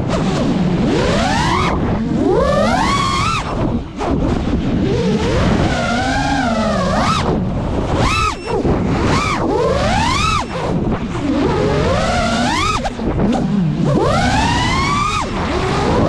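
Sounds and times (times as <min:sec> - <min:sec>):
quadcopter motors whining: 0:00.4 - 0:03.7, 0:04.8 - 0:16.0.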